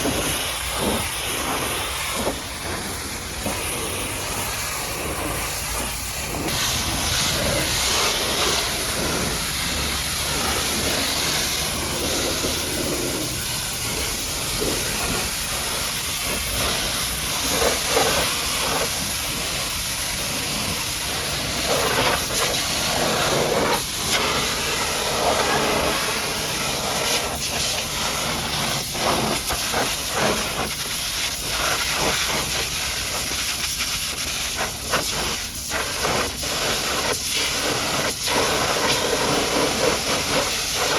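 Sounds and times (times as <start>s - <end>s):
pressure washer spraying: 0.0s - 40.9s.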